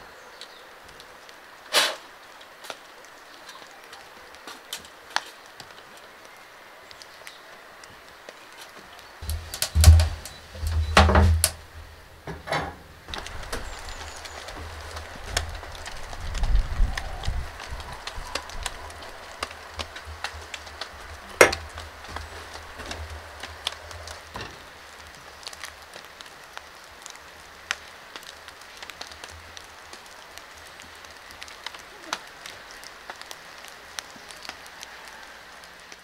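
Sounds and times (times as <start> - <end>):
faint steady hiss: 0.0 - 36.0
rain drops ticking: 0.0 - 36.0.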